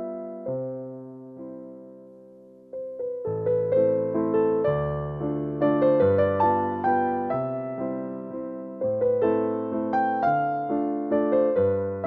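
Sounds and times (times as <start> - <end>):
piano-like keyboard melody: 0.0 - 12.0.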